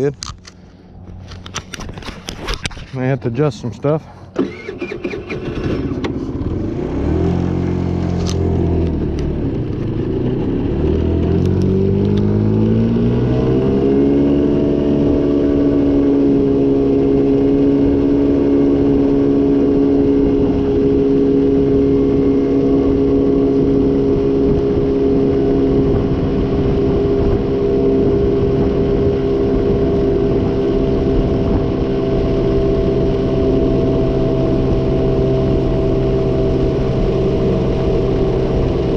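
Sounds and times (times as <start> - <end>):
scooter engine revving: 4.0 - 38.9.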